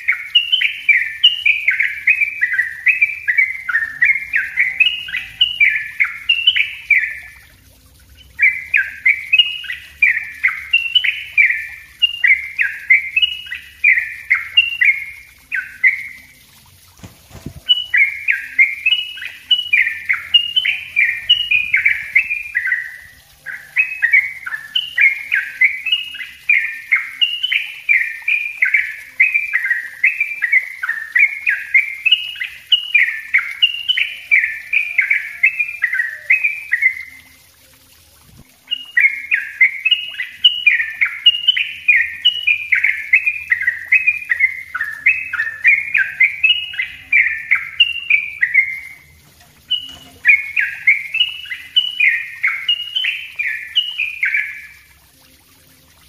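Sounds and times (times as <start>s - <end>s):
bird chattering song: 0.0s - 16.4s, 17.0s - 37.4s, 38.6s - 54.9s.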